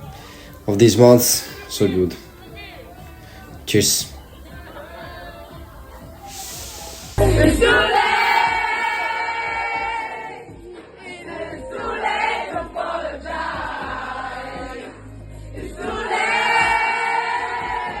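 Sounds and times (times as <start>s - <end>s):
pop song with sung vocals: 0.0s - 18.0s.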